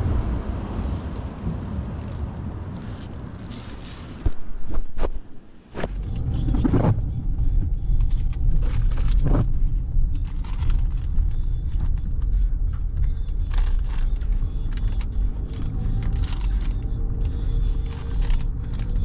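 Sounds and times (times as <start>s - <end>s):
car interior rumble: 0.0s - 19.0s.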